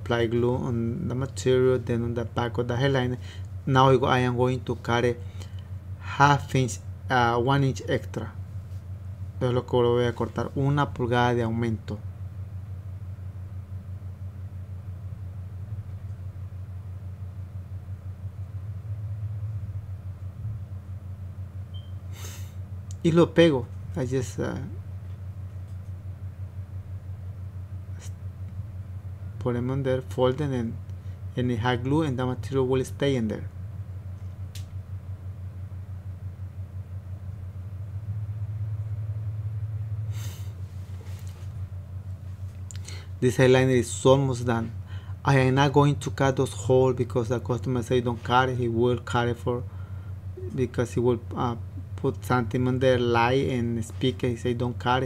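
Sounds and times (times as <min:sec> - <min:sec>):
fluttering mechanical hum: 0:00.0 - 0:55.0.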